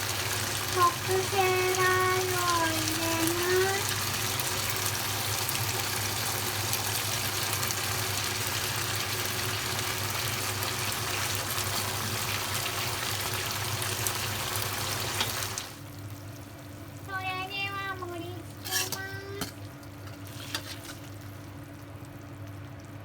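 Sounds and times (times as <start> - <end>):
sauce sizzling in a pan: 0.0 - 23.0.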